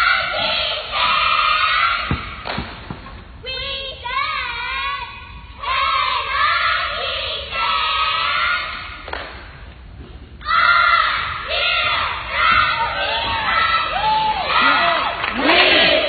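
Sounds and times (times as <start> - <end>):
girls chanting a cheer: 0.0 - 2.4, 3.4 - 9.0, 10.4 - 16.0.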